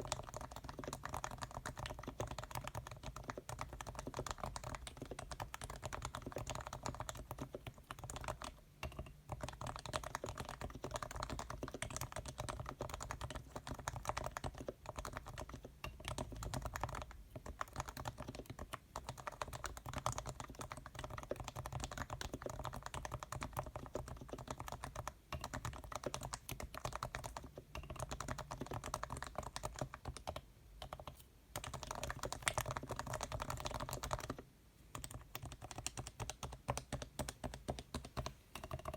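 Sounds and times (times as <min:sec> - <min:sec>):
muted keyboard typing: 0:00.0 - 0:38.9.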